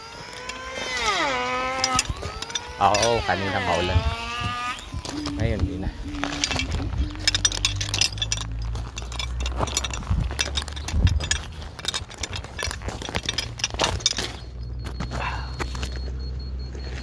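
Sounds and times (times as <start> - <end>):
tool belt metal clinking: 0.0 - 16.2
low steady hum: 0.0 - 17.0.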